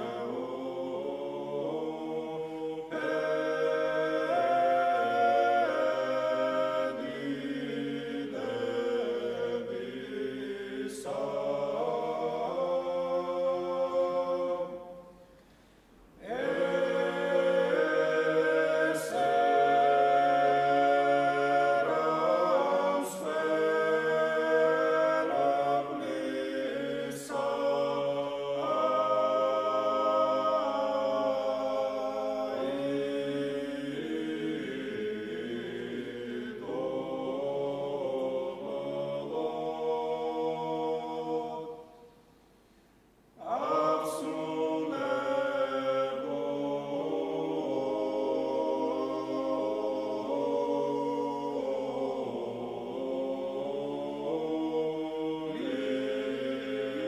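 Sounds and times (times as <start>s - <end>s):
men's ensemble chanting a cappella: 0.0s - 15.2s, 16.2s - 42.1s, 43.4s - 57.0s.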